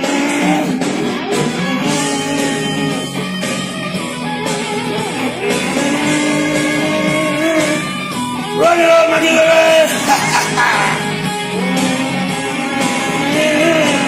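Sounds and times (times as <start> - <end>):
electric guitar sliding notes: 0.0 - 14.0
rock song instrumental: 0.0 - 14.0.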